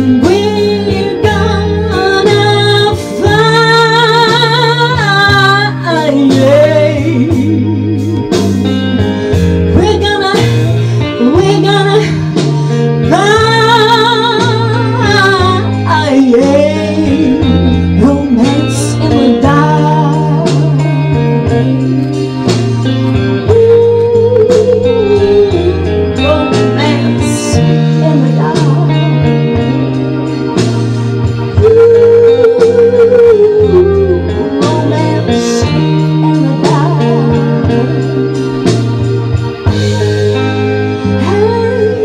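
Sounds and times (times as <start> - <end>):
guitar and walking bass: 0.0 - 42.0
woman singing bluesy ballad: 0.0 - 42.0.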